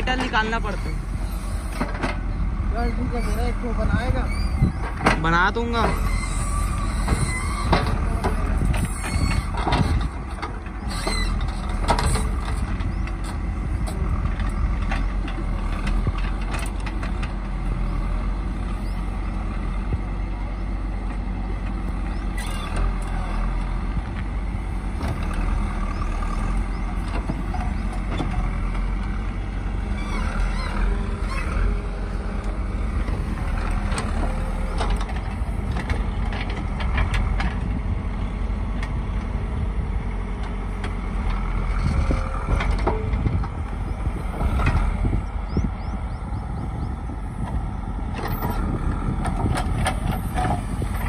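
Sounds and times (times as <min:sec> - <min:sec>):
diesel engine under load: 0:00.0 - 0:51.0.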